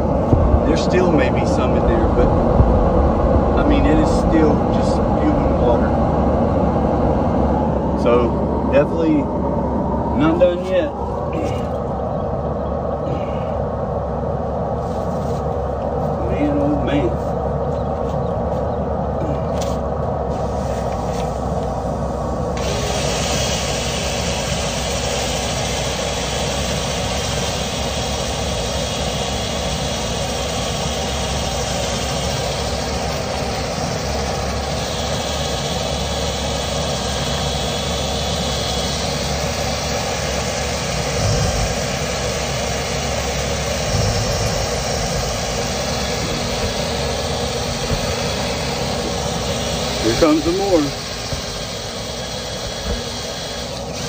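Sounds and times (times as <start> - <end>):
blower rushing air through duct: 0.0 - 54.0.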